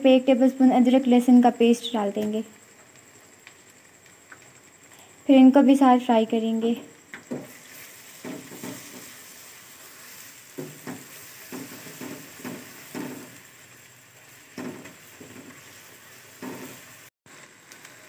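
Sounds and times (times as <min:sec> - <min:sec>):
masala sizzling in hot oil: 0:00.0 - 0:18.0.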